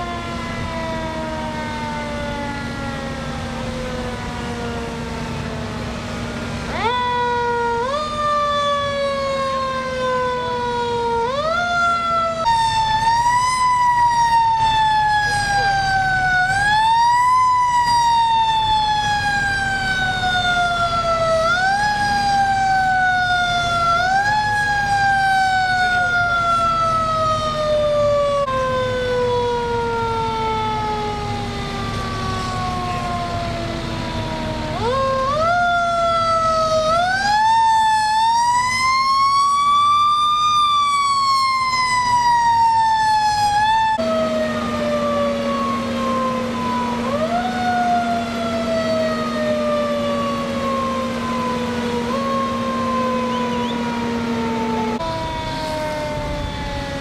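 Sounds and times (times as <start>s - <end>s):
fire engine siren wailing: 0.0s - 57.0s
idling engine drone: 0.0s - 57.0s.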